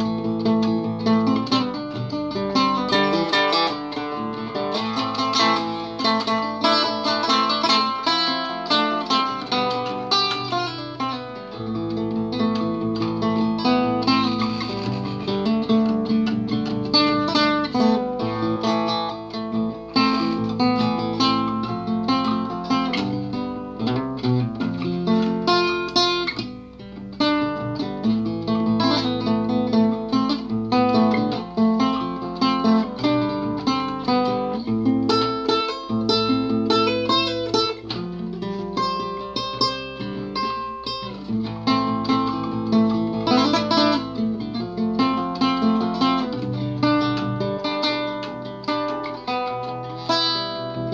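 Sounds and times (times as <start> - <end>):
fingerstyle acoustic guitar: 0.0 - 50.9.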